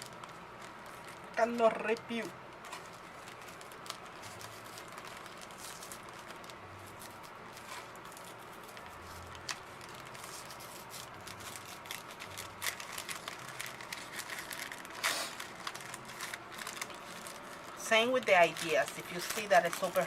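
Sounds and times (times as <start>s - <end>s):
paper wrapping rustling: 0.0s - 20.0s.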